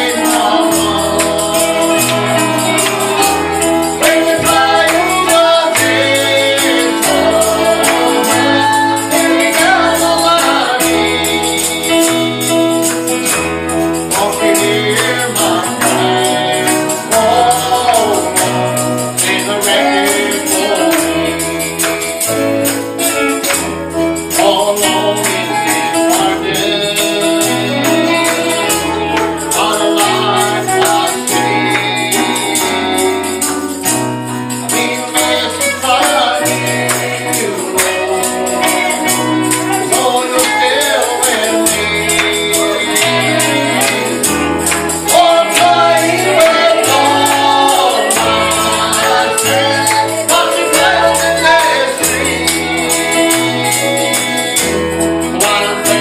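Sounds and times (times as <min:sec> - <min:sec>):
tambourine shaken: 0:00.0 - 0:56.0
voices singing gospel: 0:00.0 - 0:56.0.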